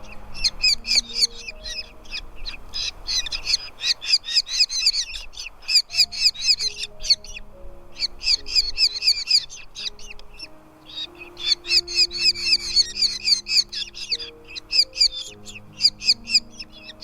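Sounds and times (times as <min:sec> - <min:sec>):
nestlings shrill begging calls: 0:00.0 - 0:17.0
soft background music: 0:00.0 - 0:17.0.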